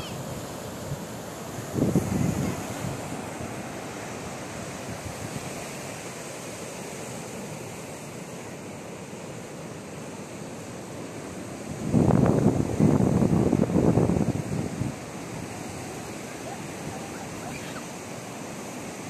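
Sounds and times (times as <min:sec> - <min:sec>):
sea surf breaking on beach: 0:00.0 - 0:19.0.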